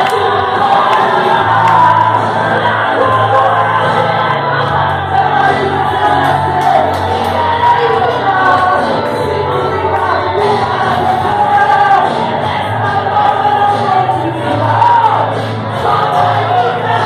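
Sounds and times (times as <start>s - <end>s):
voices singing together: 0.0s - 17.0s.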